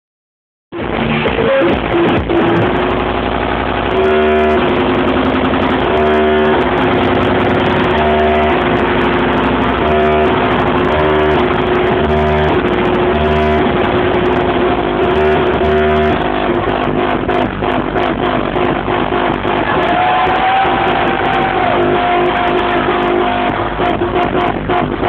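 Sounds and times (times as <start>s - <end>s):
loud electronic dance music: 0.7s - 25.0s.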